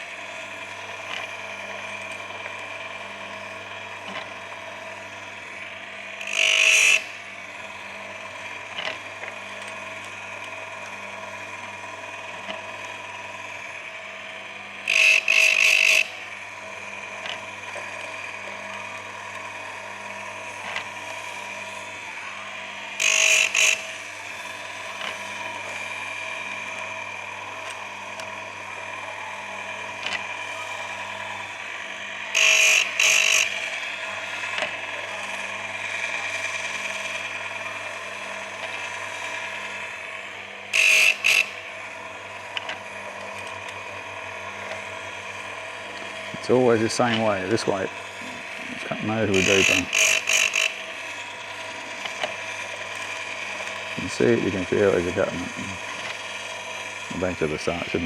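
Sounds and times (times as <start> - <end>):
sharpener motor whine: 0.0 - 58.0
grinding wheel on chain teeth: 0.8 - 9.6, 14.6 - 21.7, 23.0 - 40.0, 40.7 - 58.0.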